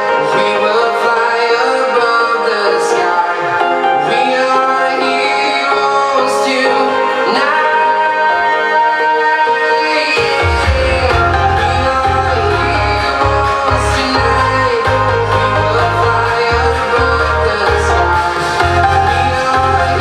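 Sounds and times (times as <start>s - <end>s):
electronic dance music with vocals: 0.0s - 20.0s.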